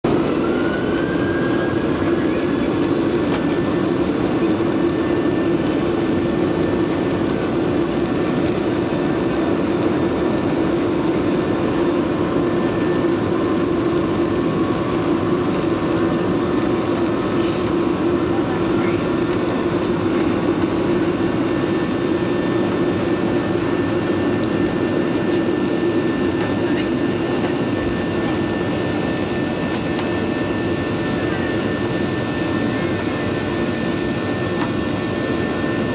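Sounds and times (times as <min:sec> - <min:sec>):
jet engines roaring: 0:00.0 - 0:35.9.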